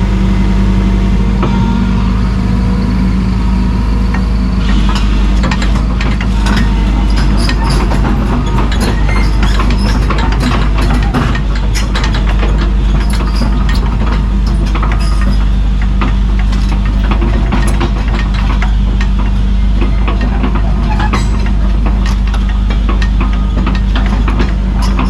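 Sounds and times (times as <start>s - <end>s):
diesel excavator running: 0.0s - 25.0s
metallic clanks of steel tracks: 1.3s - 2.9s, 4.0s - 25.0s.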